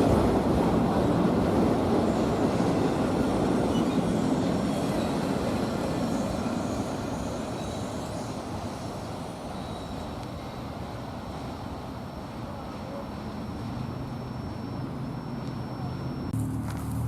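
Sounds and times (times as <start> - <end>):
freight train rumbling on rails: 0.0 - 17.0
train wheel squeal: 0.9 - 16.3.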